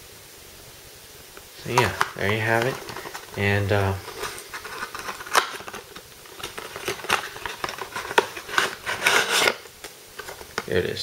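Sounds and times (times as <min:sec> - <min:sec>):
packaging rustling: 0:01.6 - 0:11.0.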